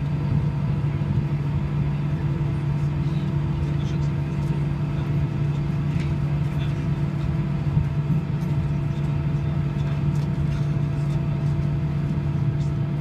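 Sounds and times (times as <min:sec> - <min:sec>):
jet engines idling in cabin: 0:00.0 - 0:13.0.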